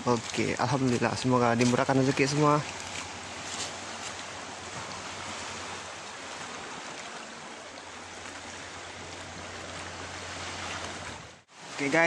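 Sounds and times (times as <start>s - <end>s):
sea waves lapping over rocks: 0.0s - 12.0s.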